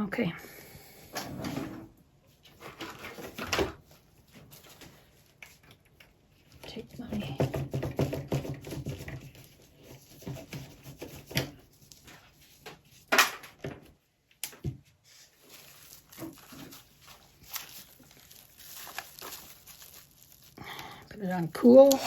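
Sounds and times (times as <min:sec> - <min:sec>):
rustles of handling: 0:02.3 - 0:07.2, 0:09.0 - 0:22.0.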